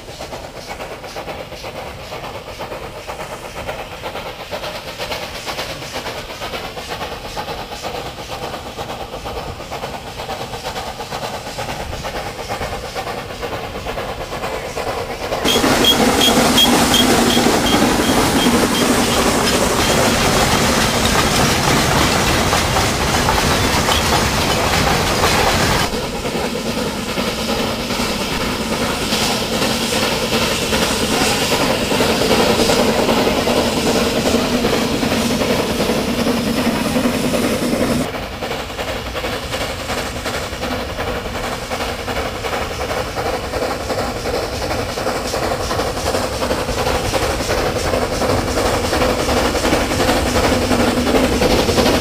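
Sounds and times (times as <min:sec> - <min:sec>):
steam locomotive running: 0:00.0 - 0:52.0
wagons rattling on track: 0:00.0 - 0:52.0.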